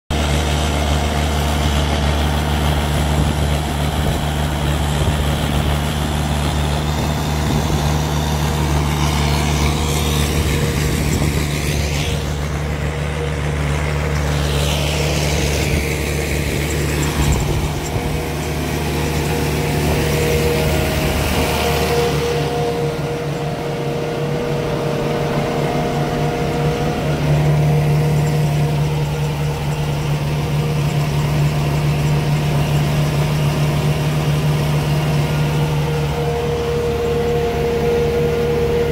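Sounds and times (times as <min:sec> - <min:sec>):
tractor diesel engine running: 0:00.1 - 0:38.9
high-pitched whine: 0:00.6 - 0:38.9.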